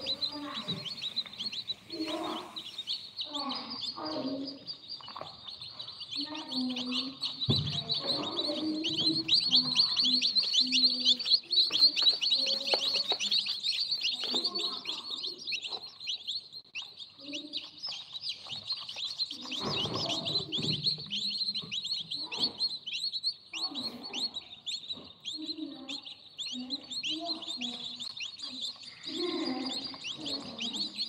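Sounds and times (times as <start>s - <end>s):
chicks cheeping: 0.0s - 31.0s.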